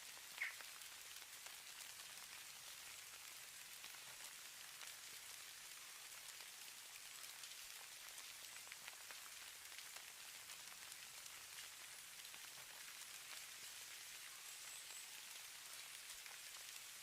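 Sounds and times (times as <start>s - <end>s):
faint steady hiss: 0.0s - 17.0s
tiny ticks of snowflakes: 0.3s - 17.0s.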